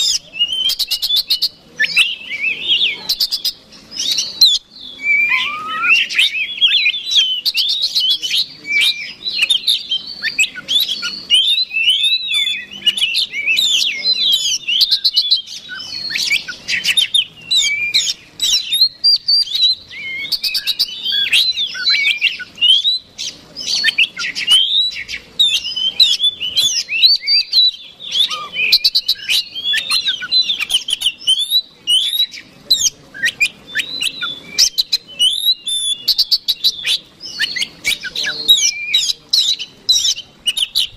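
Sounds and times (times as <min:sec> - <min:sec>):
songbird whistles and trills: 0:00.0 - 0:40.9.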